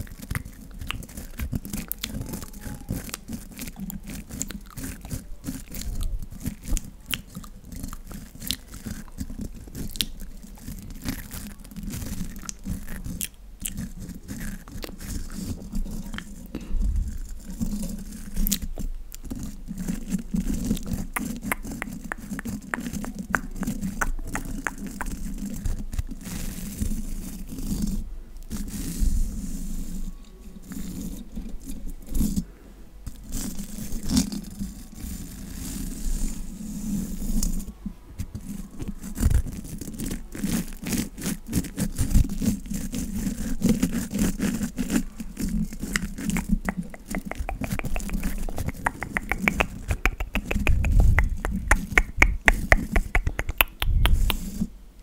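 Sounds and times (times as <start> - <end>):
brush scraping microphone: 0.0 - 54.7.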